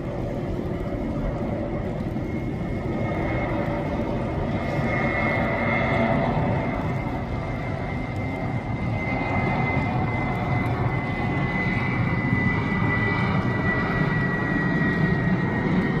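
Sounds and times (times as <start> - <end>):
jet engine rumble and whine: 0.0 - 16.0.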